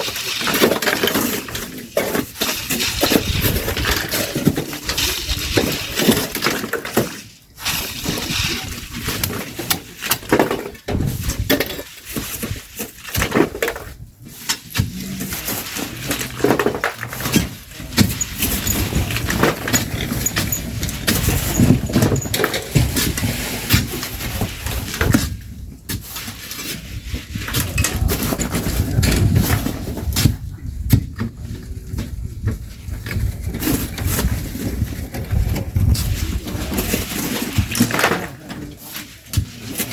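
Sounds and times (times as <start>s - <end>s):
shovels scraping sand: 0.0s - 31.0s, 33.1s - 39.9s.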